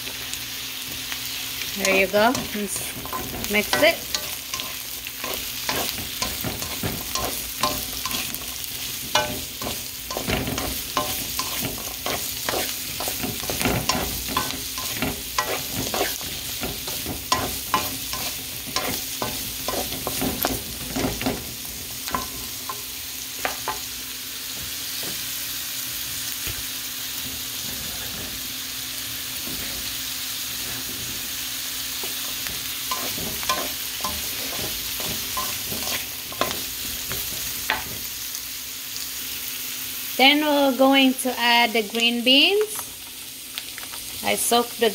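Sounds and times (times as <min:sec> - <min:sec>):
vegetables sizzling in a wok: 0:00.0 - 0:44.9.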